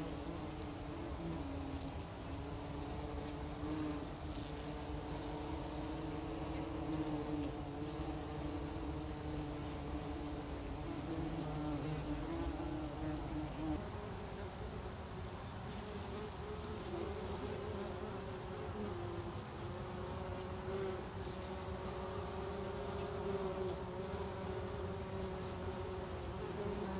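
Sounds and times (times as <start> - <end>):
bumblebees buzzing: 0.0 - 26.9.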